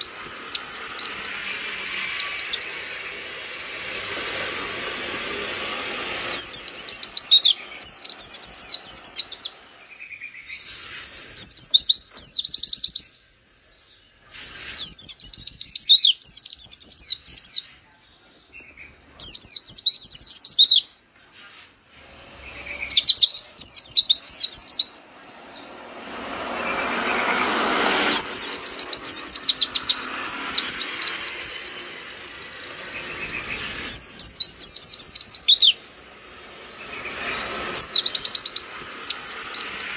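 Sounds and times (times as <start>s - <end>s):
bird chattering song: 0.0s - 4.3s, 5.0s - 25.8s, 26.7s - 39.9s
rushing background noise: 0.0s - 20.6s, 21.3s - 39.9s.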